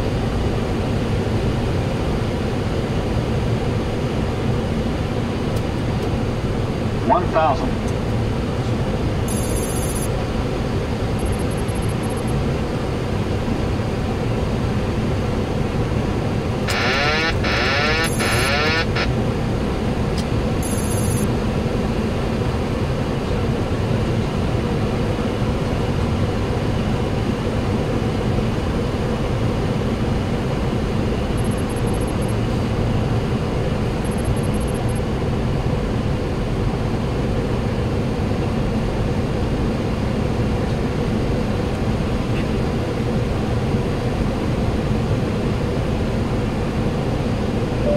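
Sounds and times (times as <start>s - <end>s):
airflow and engine noise: 0.0s - 47.9s.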